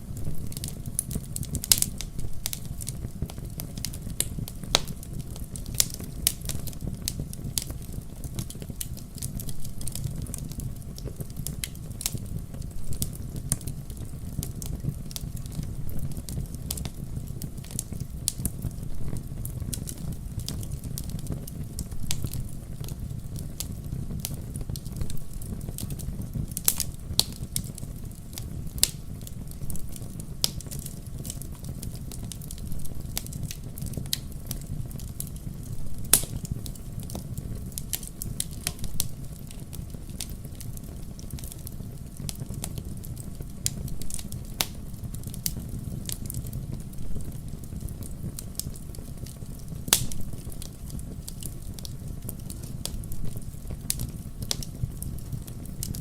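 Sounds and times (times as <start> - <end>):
low rumble of flames: 0.0 - 56.0
wood fire crackling: 0.0 - 56.0
fire pops: 0.1 - 56.0.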